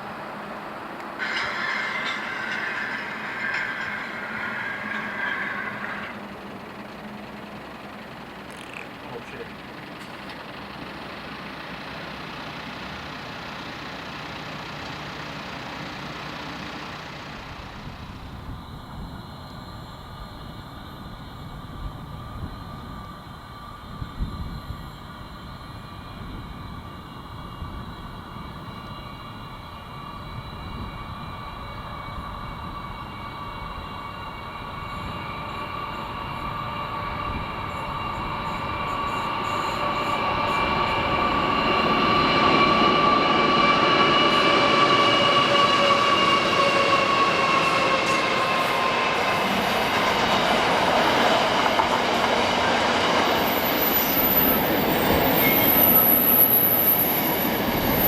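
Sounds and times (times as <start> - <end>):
train passing rumble: 0.0 - 58.0
wheels squealing on rails: 0.0 - 58.0.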